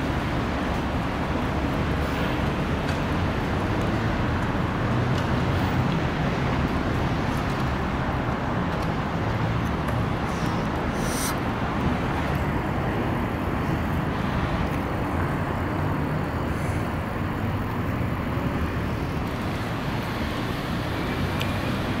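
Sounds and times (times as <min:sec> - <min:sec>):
low urban rumble with hiss: 0:00.0 - 0:22.0.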